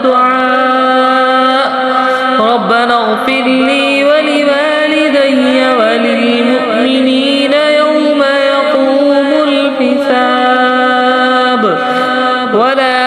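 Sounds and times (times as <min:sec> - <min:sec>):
person chanting melodically: 0:00.0 - 0:13.0.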